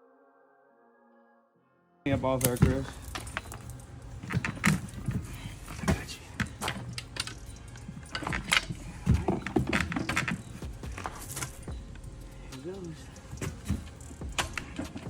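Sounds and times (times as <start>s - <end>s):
metal tools clinking and rattling: 2.1s - 15.0s
steady low hum: 2.1s - 15.0s.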